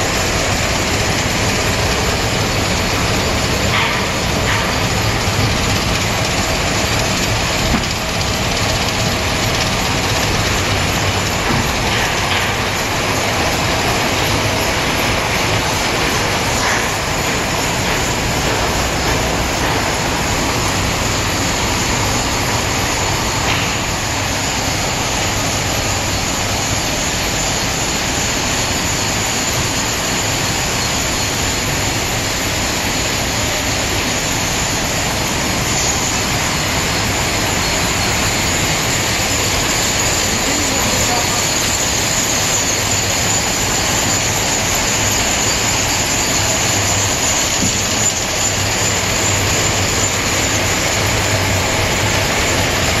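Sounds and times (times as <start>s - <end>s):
yarn winding machines running: 0.0s - 53.0s.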